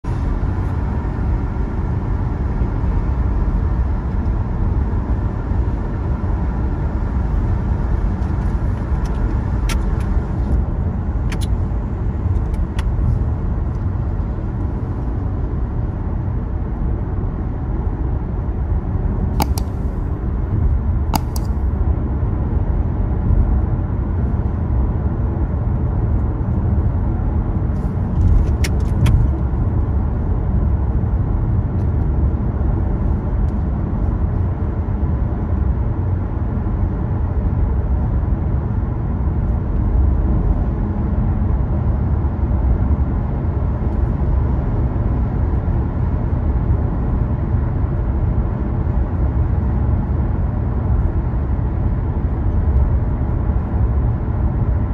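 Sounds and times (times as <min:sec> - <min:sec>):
car tyres and engine rumble: 0:00.0 - 0:54.9.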